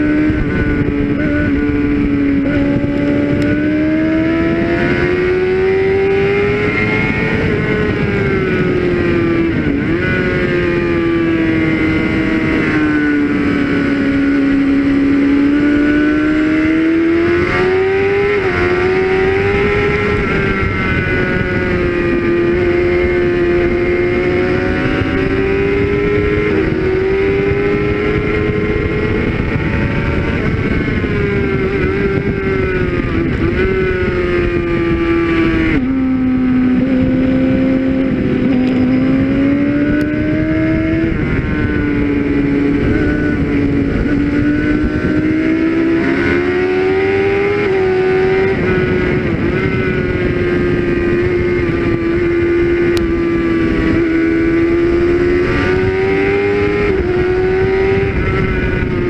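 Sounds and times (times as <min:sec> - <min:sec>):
motorcycle engine at high revs: 0:00.0 - 0:59.0
wind rush on microphone: 0:00.0 - 0:59.0.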